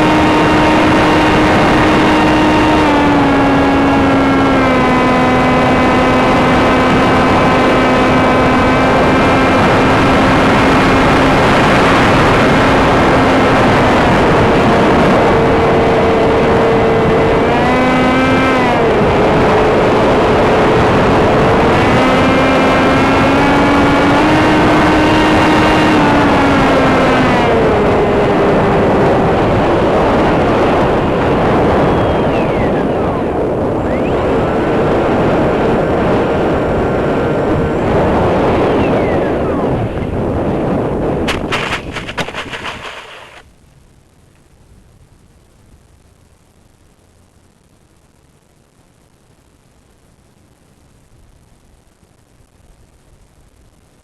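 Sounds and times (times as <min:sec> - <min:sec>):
electric motor and propeller whine: 0:00.0 - 0:43.6
wind noise on microphone: 0:00.0 - 0:48.3.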